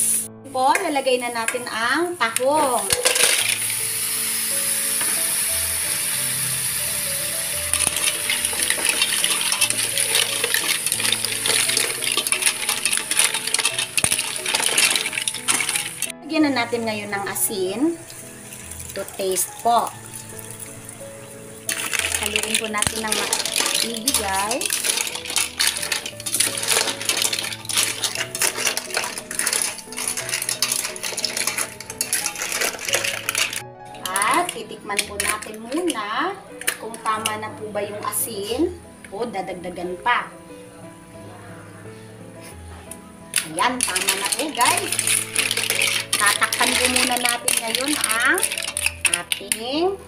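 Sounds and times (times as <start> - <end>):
mussel shells clattering in a pot: 0.6 - 4.1, 4.9 - 38.5, 43.3 - 50.0.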